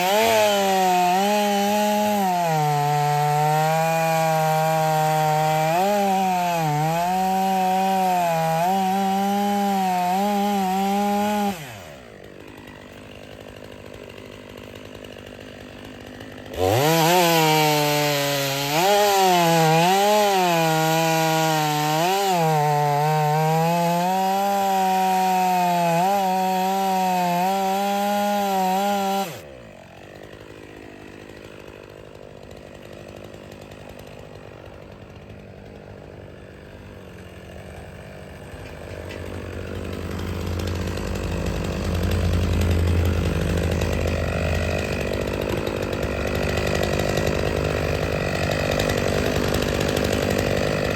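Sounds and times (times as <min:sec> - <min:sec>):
chainsaw cutting firewood: 0:00.0 - 0:50.9.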